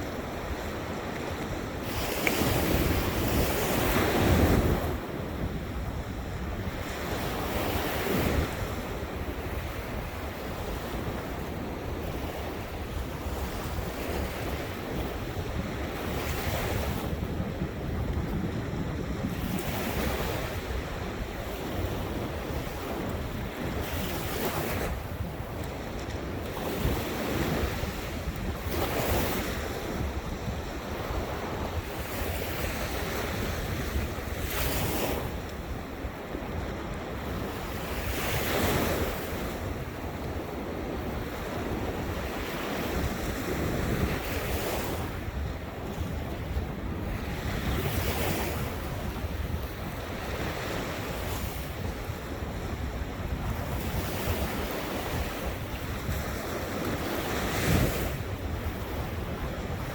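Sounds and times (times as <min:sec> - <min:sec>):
ocean surf breaking: 0:00.0 - 0:59.9
wind buffeting microphone: 0:00.0 - 0:59.9.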